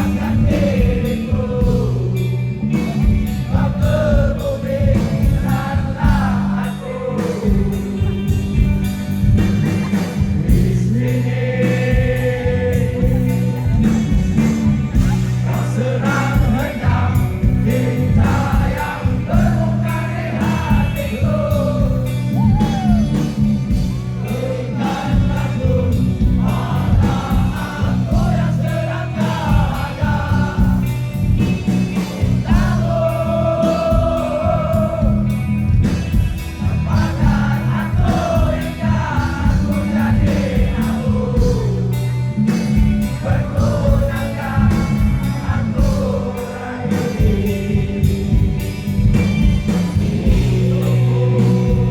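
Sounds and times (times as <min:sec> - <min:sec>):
crowd singing along: 0:00.0 - 0:51.9
live rock band: 0:00.0 - 0:51.9.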